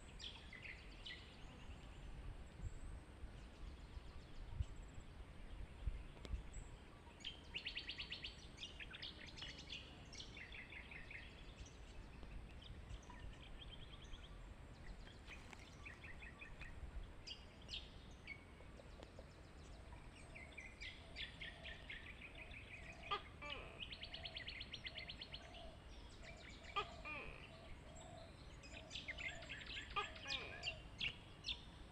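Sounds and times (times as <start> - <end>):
small birds chirping and trilling: 0.0 - 31.9.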